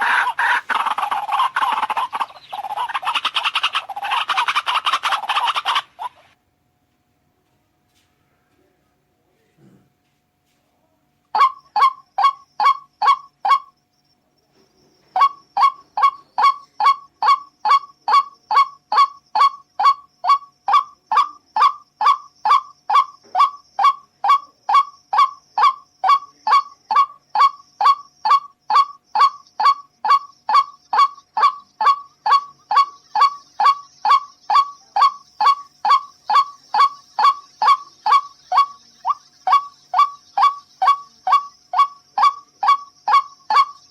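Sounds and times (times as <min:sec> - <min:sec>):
bird honking calls: 0:00.0 - 0:06.4, 0:11.4 - 0:13.7, 0:15.1 - 0:43.9.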